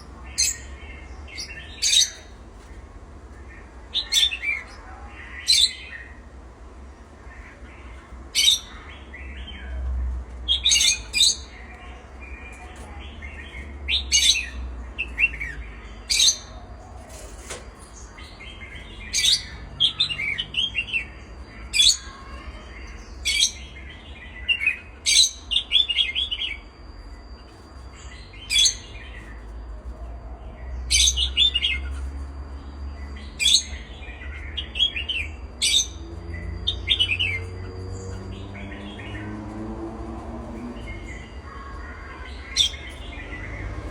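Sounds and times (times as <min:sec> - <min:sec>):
pet birds chirping: 0:00.0 - 0:43.9.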